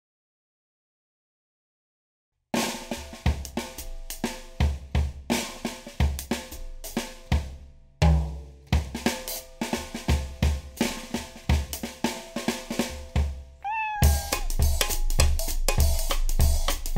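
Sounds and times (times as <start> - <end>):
drum kit groove: 2.6 - 16.9.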